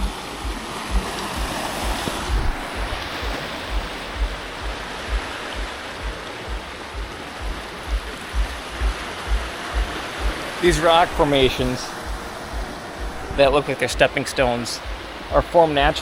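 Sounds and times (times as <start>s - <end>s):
background music low beat: 0.0s - 16.0s
sea surf on rocks: 0.0s - 16.0s.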